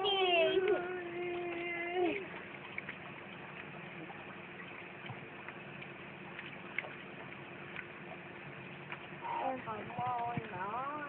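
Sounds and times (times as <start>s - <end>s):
faint hum: 0.0s - 11.0s
soft scattered ticks: 0.0s - 11.0s.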